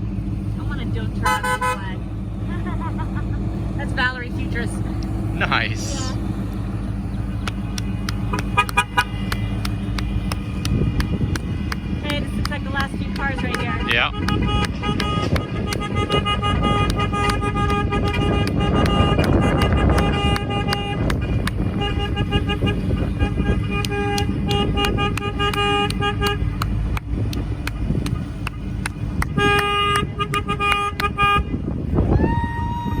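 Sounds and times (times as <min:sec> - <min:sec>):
car horns honking: 0:00.0 - 0:32.1
passing traffic: 0:00.0 - 0:33.0.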